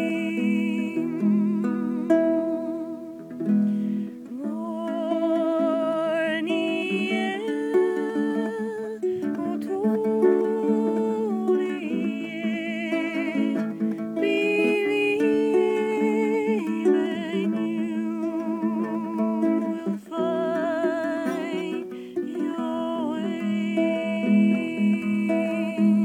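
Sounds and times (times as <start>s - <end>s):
acoustic guitar: 0.0s - 26.0s
woman singing with vibrato: 0.0s - 26.0s.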